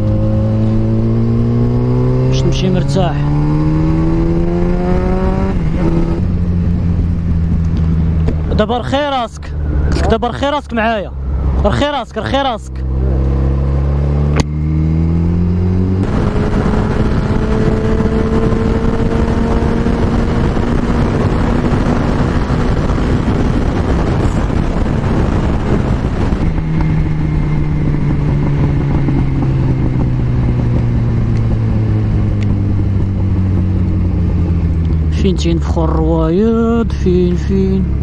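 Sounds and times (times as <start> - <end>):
wind noise on microphone: 0.0 - 8.7, 12.8 - 38.0
motorcycle engine accelerating: 0.0 - 38.0.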